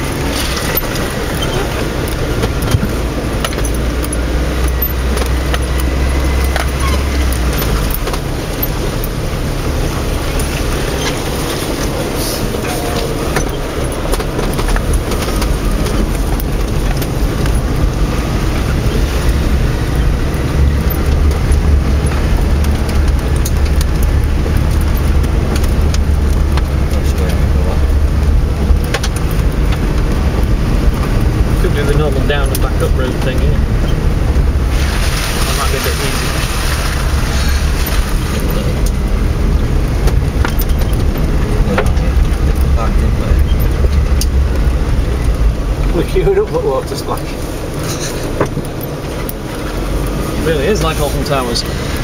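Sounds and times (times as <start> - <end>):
knocks and rattles: 0.0 - 51.9
engine and drivetrain drone: 0.0 - 52.0.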